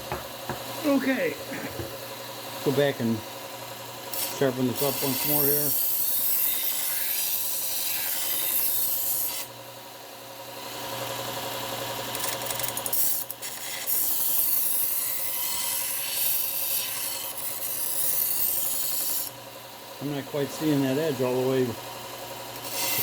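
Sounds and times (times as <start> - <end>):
knife grinding on belt sander: 0.0 - 9.6, 10.6 - 23.0.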